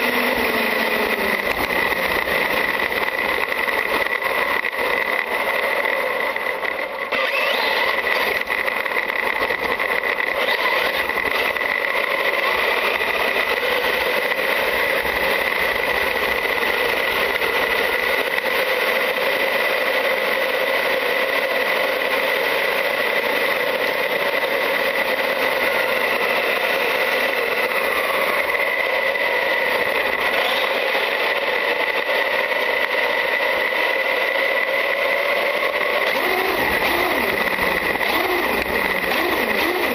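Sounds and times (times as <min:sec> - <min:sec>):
electric motor whine: 0:00.0 - 0:20.4, 0:22.1 - 0:39.9
tyre and road noise: 0:00.0 - 0:39.9.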